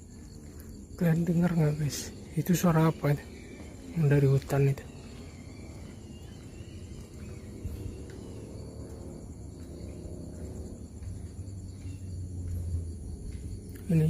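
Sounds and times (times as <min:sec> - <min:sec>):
high insect drone: 0:00.0 - 0:14.0
low rumble: 0:02.1 - 0:13.9.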